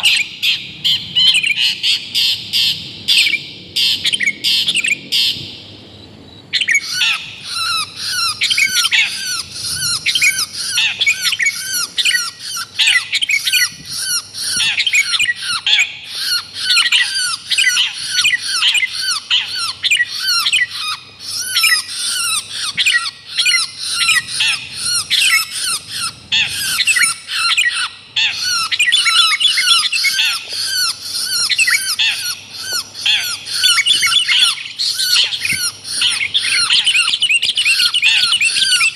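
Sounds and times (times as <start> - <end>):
birds chattering: 6.6 - 38.9.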